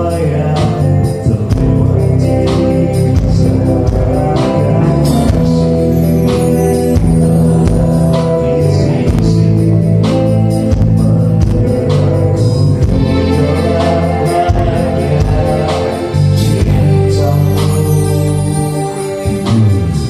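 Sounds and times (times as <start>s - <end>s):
bass line: 0.0s - 20.0s
live band playing: 0.0s - 20.0s
person singing: 0.0s - 20.0s.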